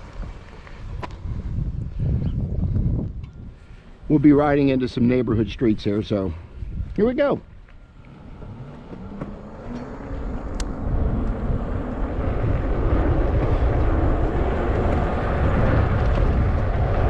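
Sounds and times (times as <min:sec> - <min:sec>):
low road rumble: 0:00.0 - 0:17.0
wind rushing over microphone: 0:00.0 - 0:17.0.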